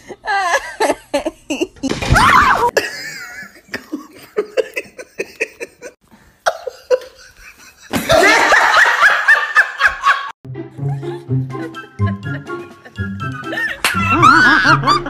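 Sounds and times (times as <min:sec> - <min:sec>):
people laughing: 0:02.8 - 0:15.0.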